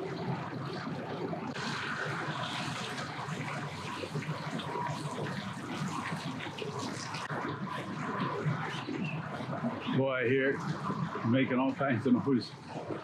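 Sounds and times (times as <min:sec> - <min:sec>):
churning water: 0:00.0 - 0:13.0.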